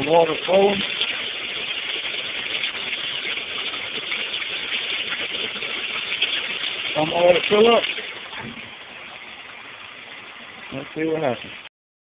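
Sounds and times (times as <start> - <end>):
water filling washing machine: 0.0 - 11.7.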